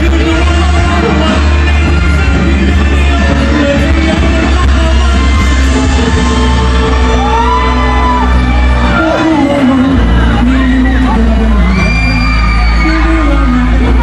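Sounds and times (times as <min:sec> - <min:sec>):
live pop band with heavy bass: 0:00.0 - 0:14.0
man singing into microphone: 0:00.0 - 0:14.0.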